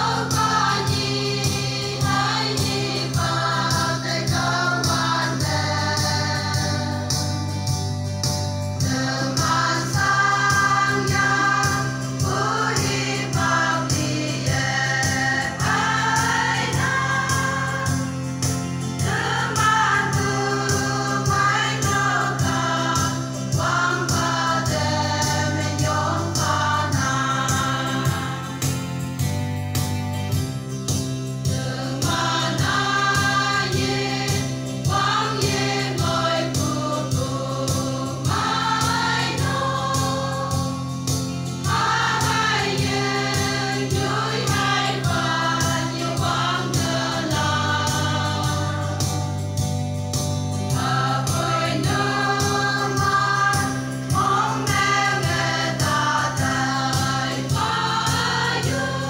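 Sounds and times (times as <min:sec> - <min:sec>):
women's choir singing a hymn: 0:00.0 - 0:08.0, 0:08.7 - 0:29.3, 0:30.9 - 0:59.0.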